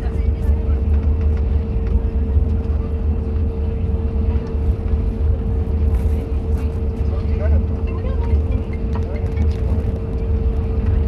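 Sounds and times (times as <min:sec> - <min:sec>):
aircraft cabin rumble: 0:00.0 - 0:11.0
mid-pitched hum: 0:00.0 - 0:11.0.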